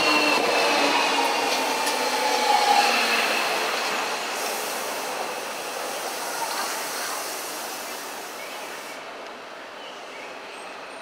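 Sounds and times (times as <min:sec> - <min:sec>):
electric train running on track: 0:00.0 - 0:09.4.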